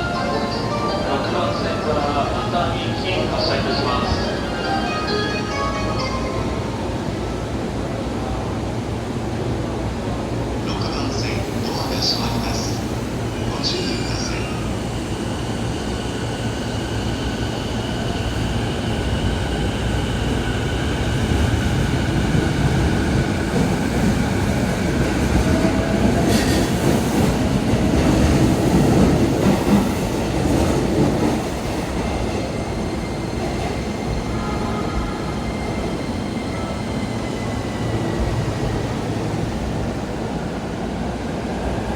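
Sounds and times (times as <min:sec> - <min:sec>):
train rail and wheel rumble: 0:00.0 - 0:41.9.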